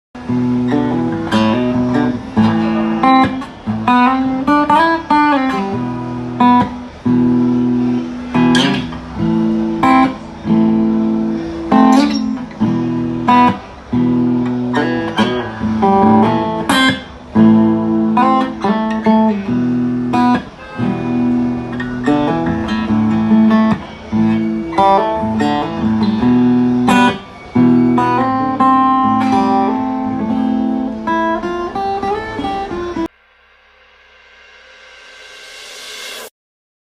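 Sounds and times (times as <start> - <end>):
guitar chords: 0.2 - 33.2.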